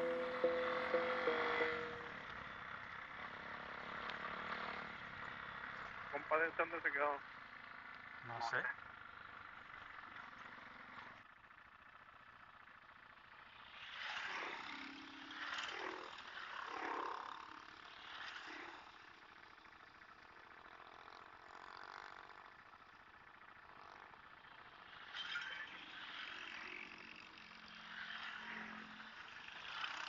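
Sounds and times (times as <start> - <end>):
distant vehicles passing: 0.0 - 30.0
faint engine hum: 0.0 - 30.0.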